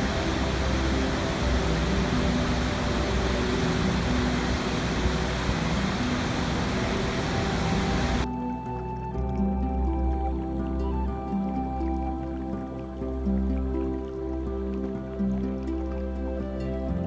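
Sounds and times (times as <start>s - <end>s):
rushing water: 0.0s - 17.0s
soft background music: 0.0s - 17.0s.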